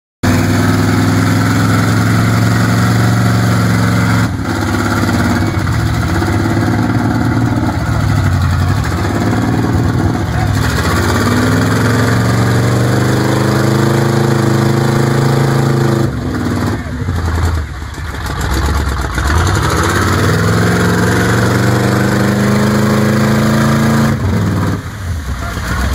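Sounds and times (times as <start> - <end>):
off-road vehicle engine accelerating: 0.2 - 25.9.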